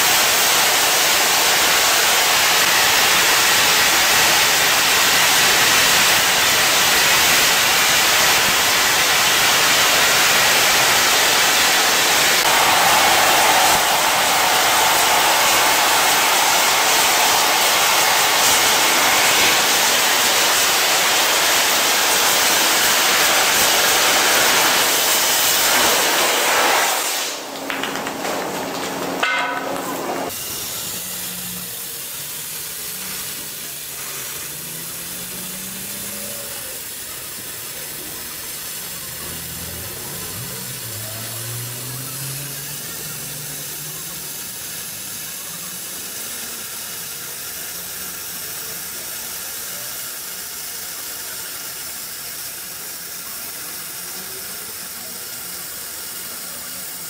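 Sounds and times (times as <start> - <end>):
cutting torch hissing: 0.0 - 28.1, 29.1 - 57.0.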